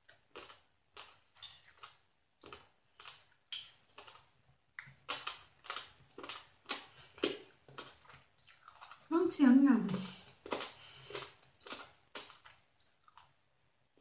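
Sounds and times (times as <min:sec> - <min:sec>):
person chewing crunchy food: 0:00.0 - 0:09.1, 0:09.9 - 0:14.0.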